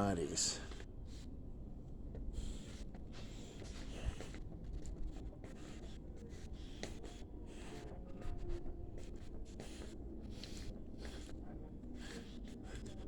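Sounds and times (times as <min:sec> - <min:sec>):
scratching and rubbing noises: 0:02.4 - 0:13.0.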